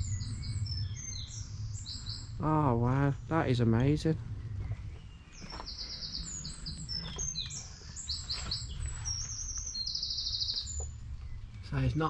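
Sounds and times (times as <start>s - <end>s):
low background rumble: 0.0s - 12.0s
small songbird singing: 0.0s - 12.0s.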